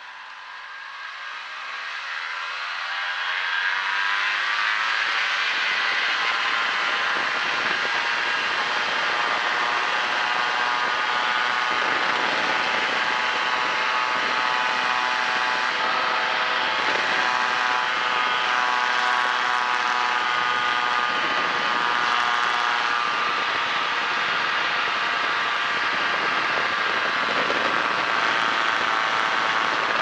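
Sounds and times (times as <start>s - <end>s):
light aircraft engine and propeller: 0.0s - 30.0s.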